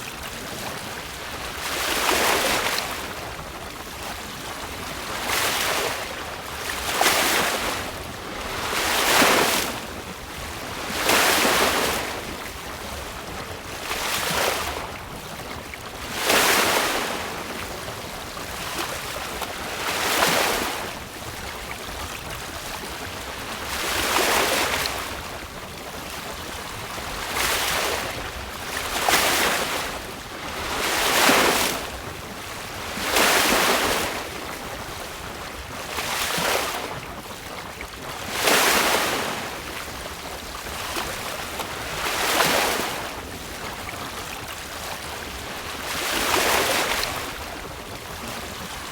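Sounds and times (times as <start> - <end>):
water splashing along boat hull: 0.0 - 48.9
wind: 0.0 - 48.9.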